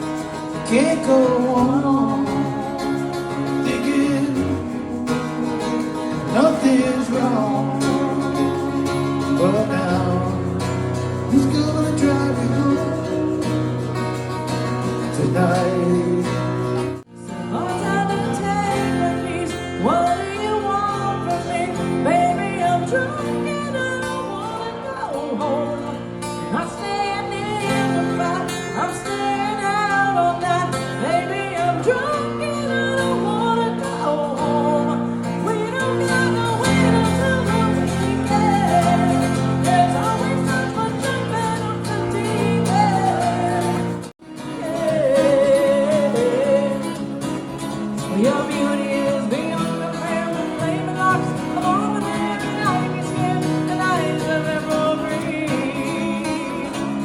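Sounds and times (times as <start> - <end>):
acoustic guitar: 0.0 - 57.0.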